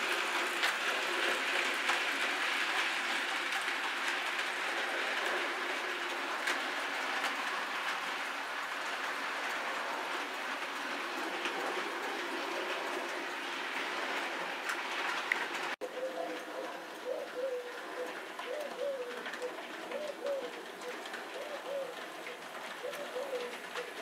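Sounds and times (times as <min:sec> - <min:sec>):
model train wheels rattling on rail: 0:00.0 - 0:24.0.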